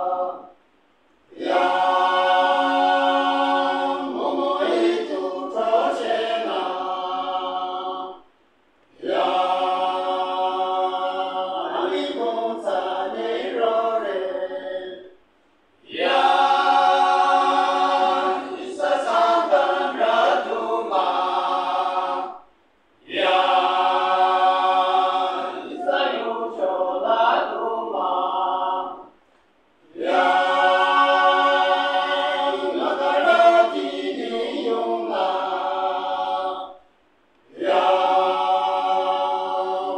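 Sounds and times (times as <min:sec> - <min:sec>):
men's choir singing: 0:00.0 - 0:00.6, 0:01.3 - 0:08.2, 0:08.9 - 0:15.1, 0:15.8 - 0:22.4, 0:23.0 - 0:29.1, 0:29.9 - 0:36.8, 0:37.5 - 0:39.9.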